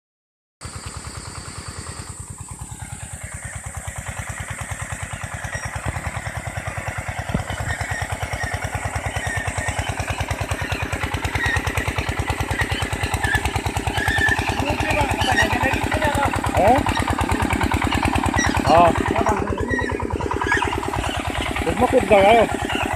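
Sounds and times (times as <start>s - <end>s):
cultivator engine running: 0.6s - 22.9s.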